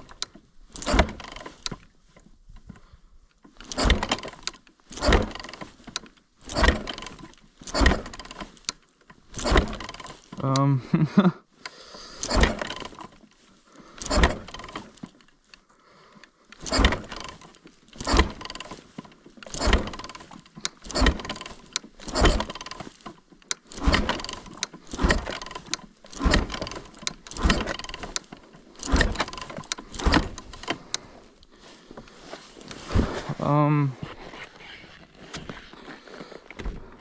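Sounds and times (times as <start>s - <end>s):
engine turning over: 0.0s - 2.9s, 3.5s - 10.7s, 12.1s - 13.2s, 13.8s - 15.3s, 16.5s - 33.8s
dirt bike being kick-started: 0.0s - 37.0s.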